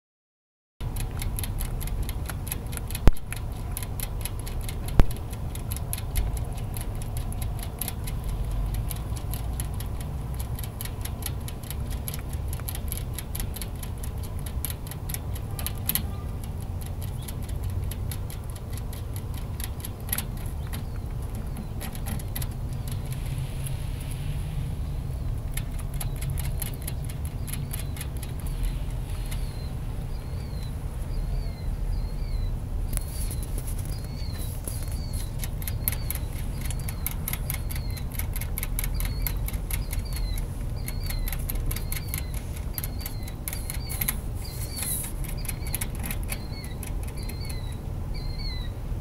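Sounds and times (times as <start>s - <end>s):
sharp clicks: 0.8s - 48.7s
rabbits eating and drinking clicks: 0.8s - 48.8s
steady low rumble: 0.8s - 49.0s.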